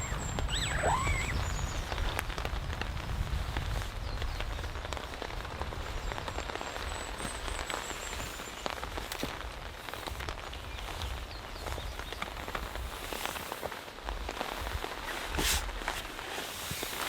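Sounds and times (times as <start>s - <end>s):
raindrops ticking: 0.0s - 17.0s
steady rain falling: 0.0s - 17.0s.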